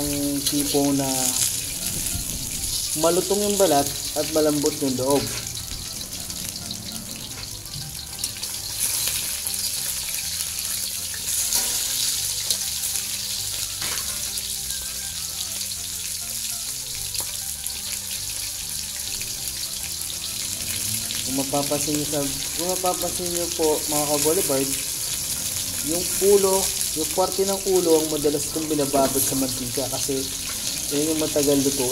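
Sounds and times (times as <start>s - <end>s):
fish sizzling in oil: 0.0s - 31.9s.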